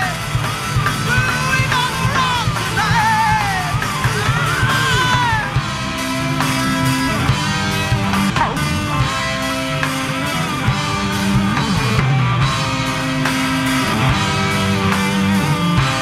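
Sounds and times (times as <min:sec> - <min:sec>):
bass guitar: 0:00.0 - 0:16.0
drum kit steady beat: 0:00.0 - 0:16.0
electric guitars sustained notes: 0:00.0 - 0:16.0.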